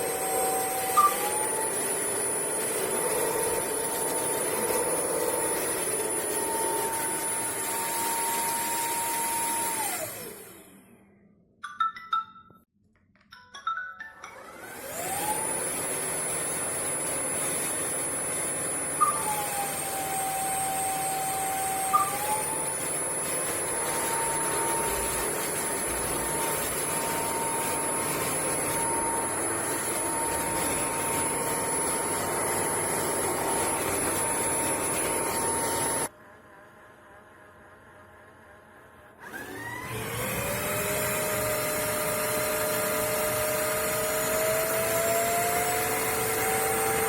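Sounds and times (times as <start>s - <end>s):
vacuum motor whine: 0.0s - 11.2s, 14.4s - 47.0s.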